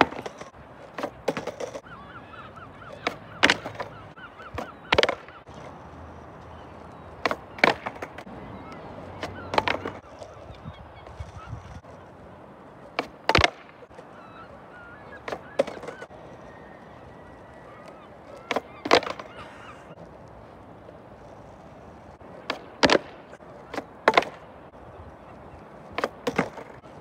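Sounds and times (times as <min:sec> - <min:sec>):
skateboard clacks on asphalt: 0:00.0 - 0:01.9, 0:02.8 - 0:27.0.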